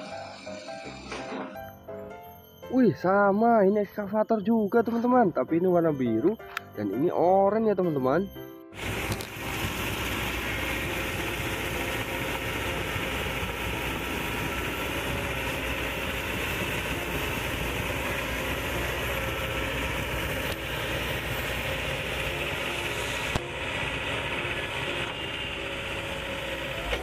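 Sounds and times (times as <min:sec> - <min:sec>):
excavator diesel engine running: 0:00.0 - 0:03.7, 0:04.3 - 0:27.0.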